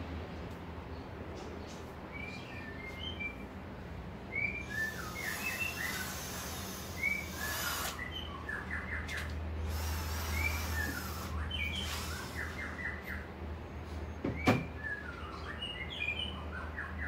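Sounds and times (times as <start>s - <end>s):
birds chirping: 0.8s - 17.0s.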